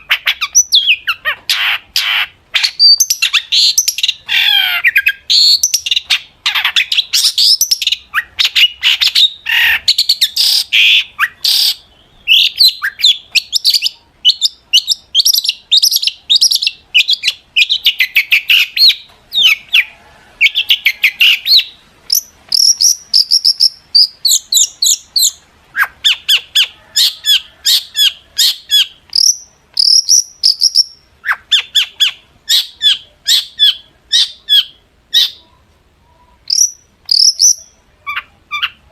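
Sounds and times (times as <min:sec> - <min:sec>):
bird singing fast chatter: 0:00.0 - 0:35.4, 0:36.4 - 0:38.8.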